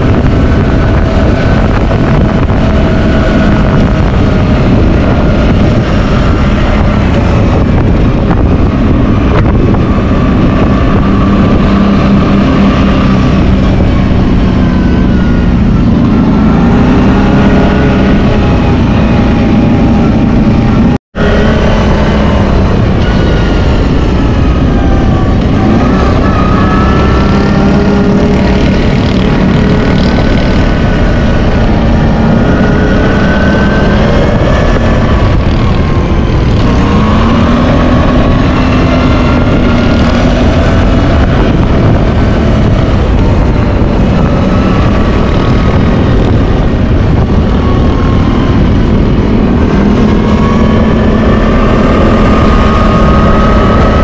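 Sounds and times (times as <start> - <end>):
atv engine revving: 0.0 - 54.0
wind and ground rumble: 0.0 - 54.0.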